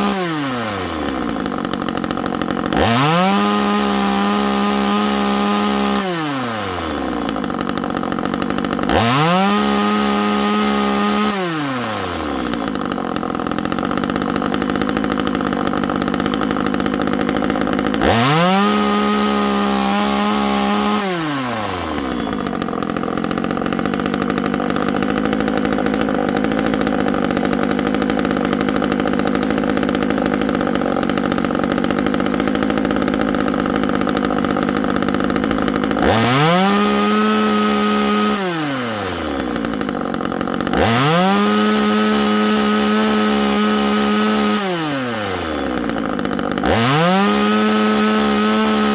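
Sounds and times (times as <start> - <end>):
chainsaw revving and idling: 0.0 - 48.9.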